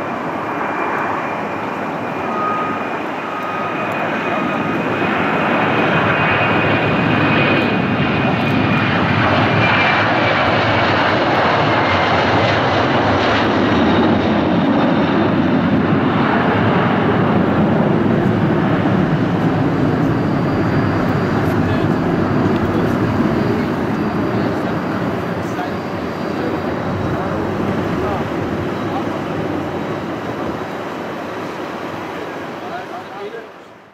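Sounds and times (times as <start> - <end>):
jet engines at takeoff thrust: 0.0 - 33.9
faint engine whine: 0.1 - 33.9.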